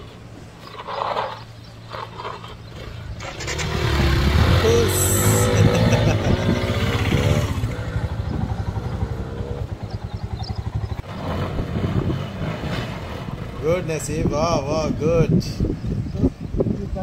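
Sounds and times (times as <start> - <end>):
motorcycle engines: 0.0 - 17.0.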